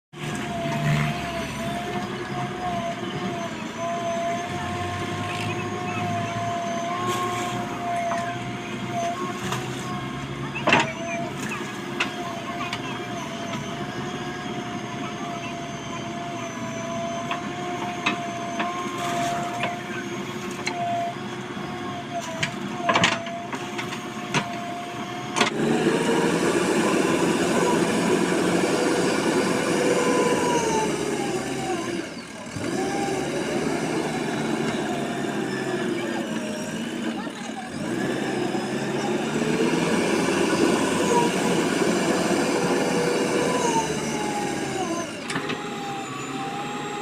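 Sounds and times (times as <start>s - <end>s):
diesel engine whining: 0.0s - 47.0s.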